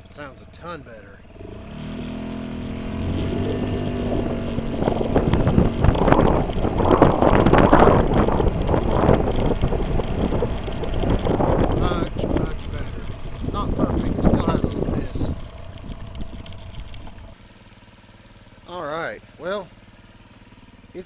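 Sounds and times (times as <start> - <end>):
scooter engine running: 0.0 - 21.0.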